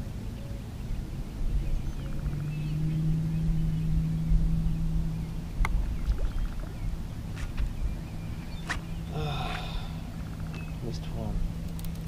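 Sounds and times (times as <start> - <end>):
low uneven rumble: 0.0 - 12.0.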